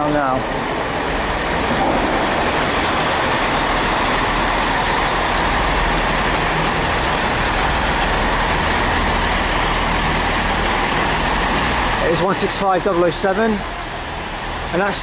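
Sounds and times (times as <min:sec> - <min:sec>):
train passing with engine and rail noise: 0:00.0 - 0:15.0.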